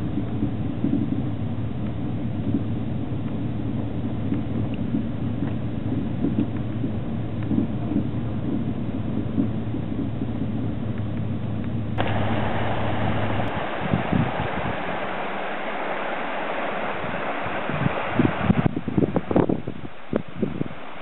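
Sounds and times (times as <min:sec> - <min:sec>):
floodwater rushing over road: 0:00.0 - 0:21.0
truck engine and road noise: 0:00.0 - 0:21.0
wind buffeting microphone: 0:00.0 - 0:21.0.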